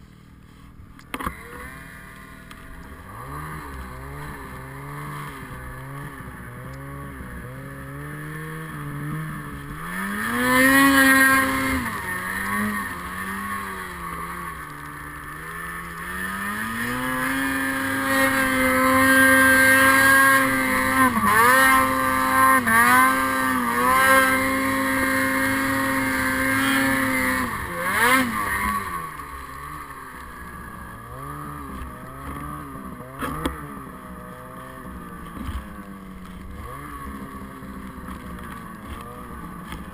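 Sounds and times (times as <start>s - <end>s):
snowmobile engine revving: 1.2s - 39.9s.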